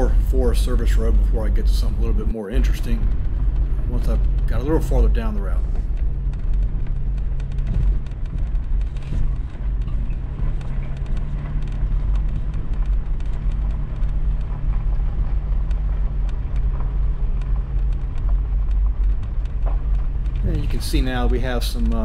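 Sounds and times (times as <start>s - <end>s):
low engine drone: 0.0s - 22.0s
small clicks and knocks: 0.1s - 22.0s.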